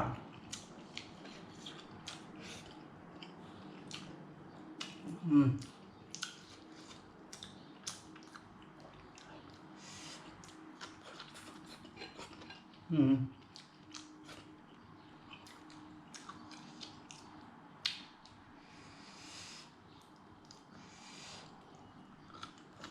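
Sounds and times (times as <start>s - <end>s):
chewing sounds: 0.2s - 4.2s, 4.8s - 18.4s, 21.5s - 22.9s.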